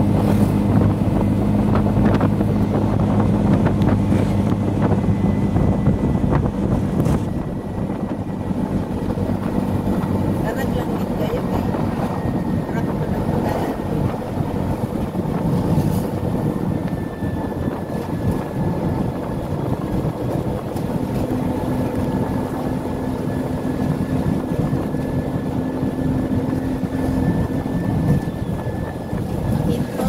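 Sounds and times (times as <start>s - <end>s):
low steady hum: 0.0s - 30.0s
vehicle engine and road rumble: 0.0s - 30.0s.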